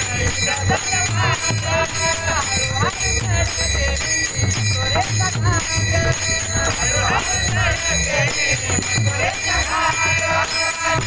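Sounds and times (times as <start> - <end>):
low drum beat: 0.0 - 10.2
jingling hand cymbals: 0.0 - 11.0
man singing: 0.0 - 11.0.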